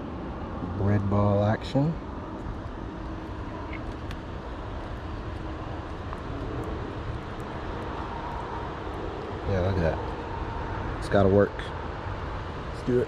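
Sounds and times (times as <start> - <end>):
distant engine rumble: 0.0 - 13.0.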